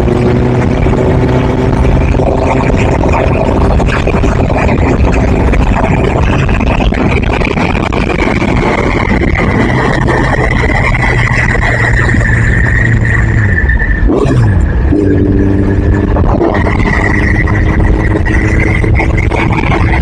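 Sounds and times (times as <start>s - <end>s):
steady high whine: 0.0s - 20.0s
vehicle engine running: 0.0s - 20.0s
wind and road noise: 0.0s - 20.0s.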